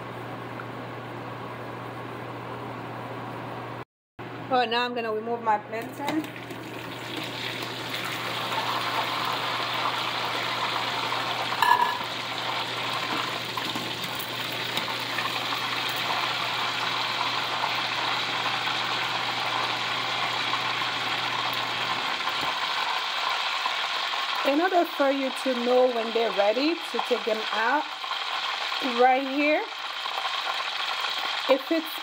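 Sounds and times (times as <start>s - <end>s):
hot oil sizzling: 6.3s - 32.0s.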